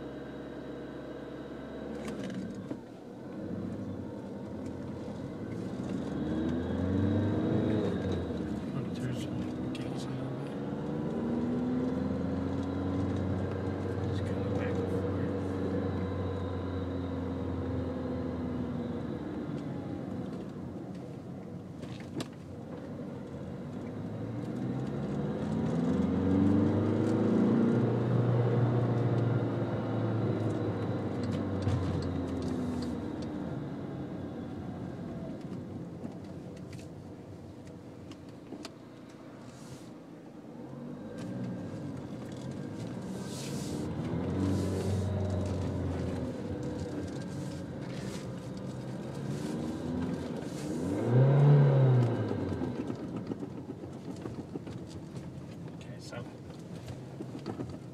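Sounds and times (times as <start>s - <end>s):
diesel engine revving: 0.0s - 20.4s, 23.1s - 36.0s, 40.7s - 56.3s.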